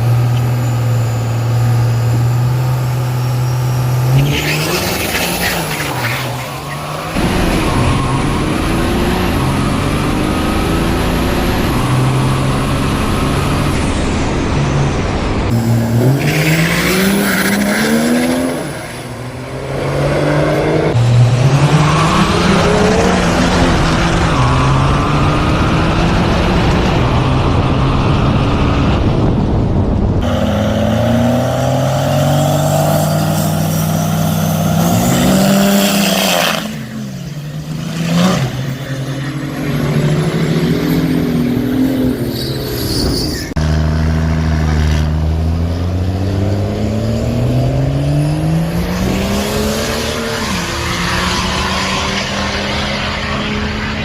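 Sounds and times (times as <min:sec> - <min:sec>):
diesel truck engines revving: 0:00.0 - 0:54.0.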